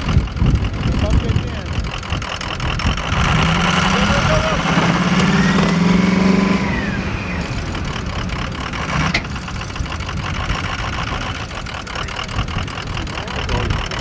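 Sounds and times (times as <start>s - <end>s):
vehicle engine under load: 0.0s - 14.0s.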